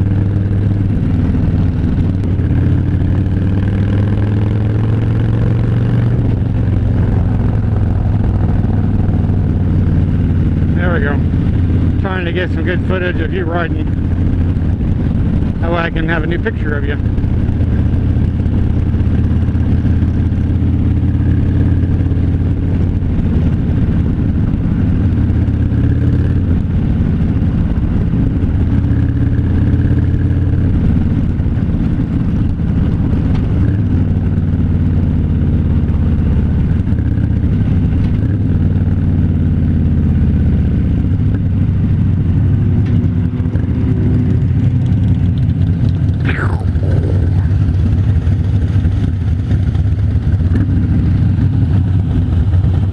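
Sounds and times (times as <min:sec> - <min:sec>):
motorcycle engine cruising: 0:00.0 - 0:52.9.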